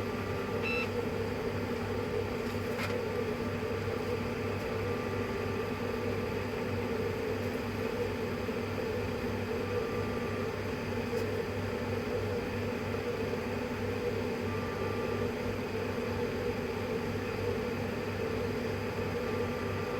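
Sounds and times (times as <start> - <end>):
three d printer humming: 0.0 - 19.9.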